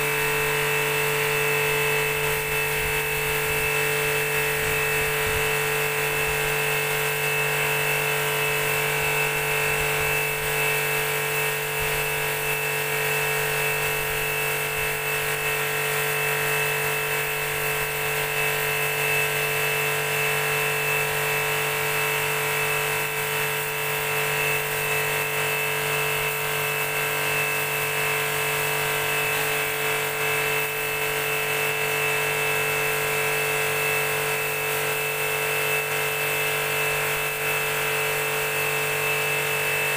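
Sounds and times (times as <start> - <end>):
pressure washer motor humming: 0.0 - 39.9.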